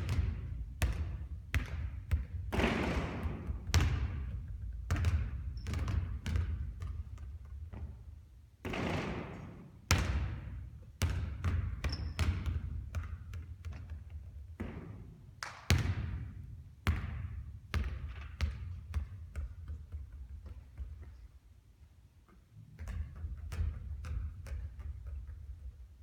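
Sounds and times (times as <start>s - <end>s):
basketball bouncing on hard floor: 0.0s - 21.3s, 22.7s - 25.8s.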